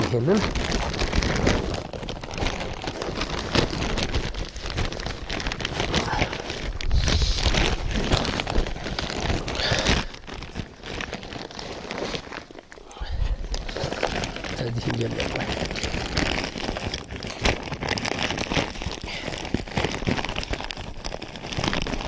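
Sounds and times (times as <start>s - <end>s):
plastic sack crinkling: 0.0s - 22.0s.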